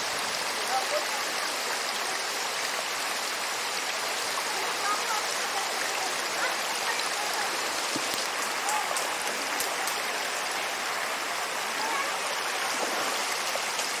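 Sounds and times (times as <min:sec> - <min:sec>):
water rushing over rock ledge: 0:00.0 - 0:14.0
water splashes and gurgles: 0:00.0 - 0:14.0.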